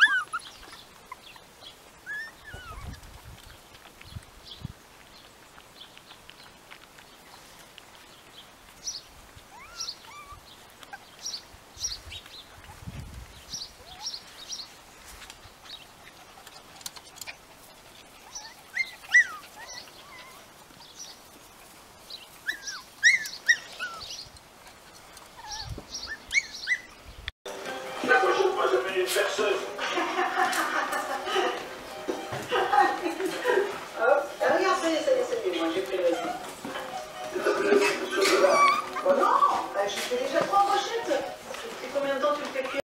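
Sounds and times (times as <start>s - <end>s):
small birds chirping: 0.0s - 27.3s, 32.9s - 42.8s.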